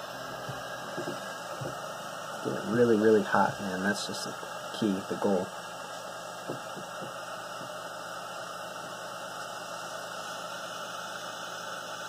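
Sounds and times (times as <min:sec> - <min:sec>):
butane torch hissing: 0:00.0 - 0:12.0.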